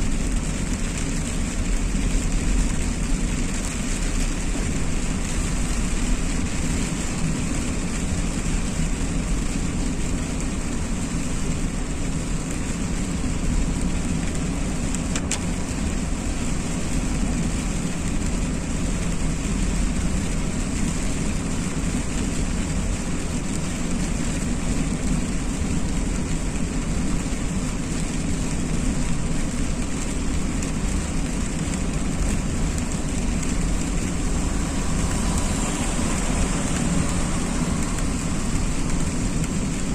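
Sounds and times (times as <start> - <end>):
car engine and tyres rumbling: 0.0 - 39.9
hiss of water and rain: 0.0 - 39.9.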